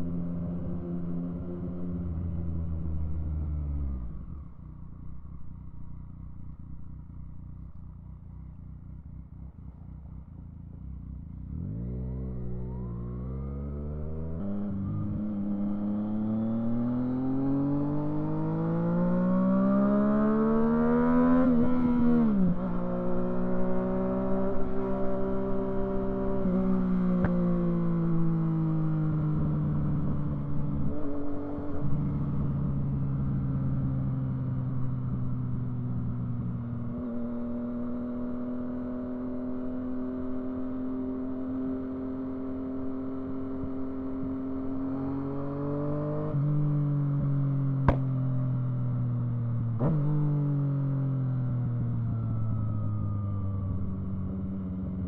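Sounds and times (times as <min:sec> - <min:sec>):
motorcycle engine revving: 0:10.0 - 0:55.0.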